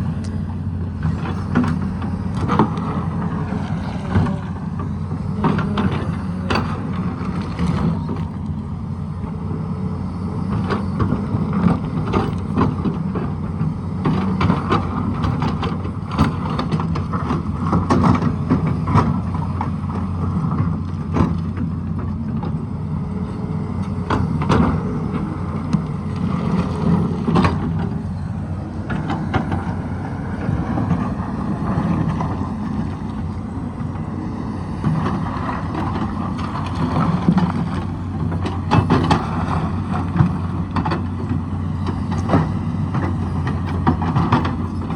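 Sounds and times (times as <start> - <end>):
excavator diesel engine running: 0.0 - 44.9
digging knocks and clatter: 0.2 - 8.5, 10.4 - 22.7, 23.4 - 34.1, 34.7 - 44.9.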